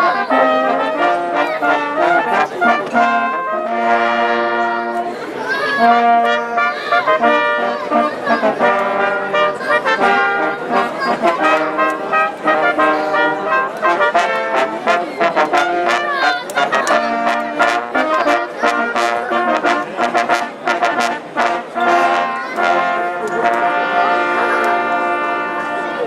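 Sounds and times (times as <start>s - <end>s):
brass band playing: 0.0s - 26.0s.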